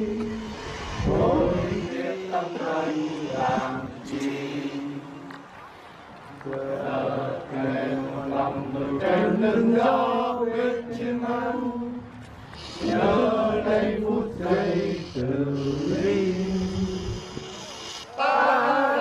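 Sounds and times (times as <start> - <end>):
men chanting in held notes: 0.0 - 5.3, 6.4 - 19.0.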